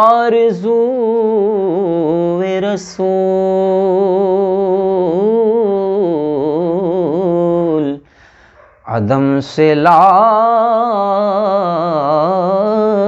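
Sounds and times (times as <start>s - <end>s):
man singing unaccompanied: 0.0s - 8.1s, 8.8s - 13.0s.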